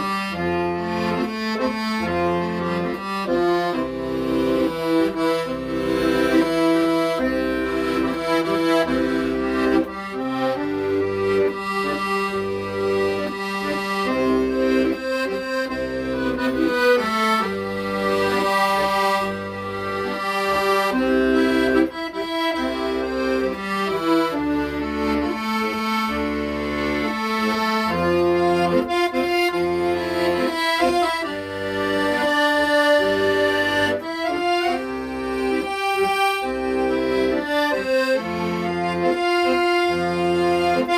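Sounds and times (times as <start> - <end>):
accordion ballad: 0.0 - 40.9.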